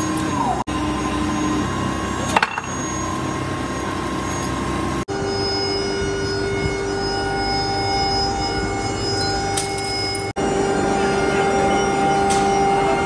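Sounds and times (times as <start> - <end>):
workshop machinery whining: 0.0 - 13.0.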